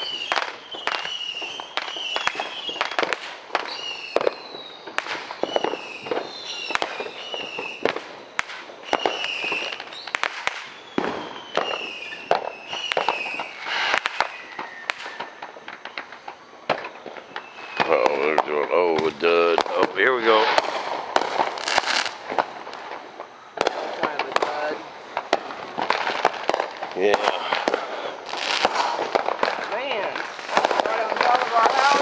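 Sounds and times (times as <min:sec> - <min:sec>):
firework bangs and crackles: 0:00.0 - 0:32.0
firework whistles: 0:00.0 - 0:32.0.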